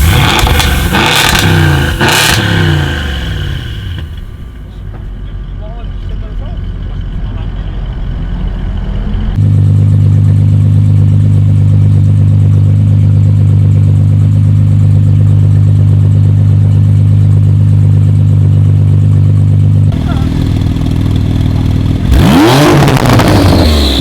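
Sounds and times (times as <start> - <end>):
car engine at steady speed: 0.0 - 24.0.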